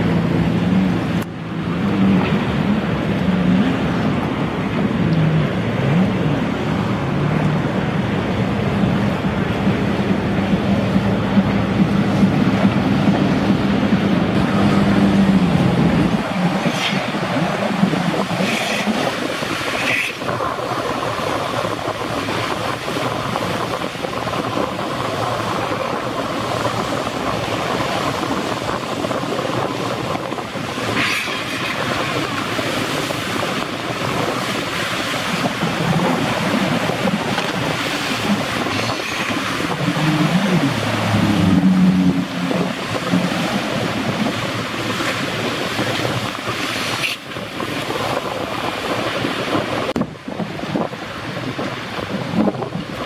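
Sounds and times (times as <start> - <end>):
jet ski engines revving: 0.0 - 53.0
water splashing: 0.0 - 53.0
wind on microphone: 0.0 - 53.0.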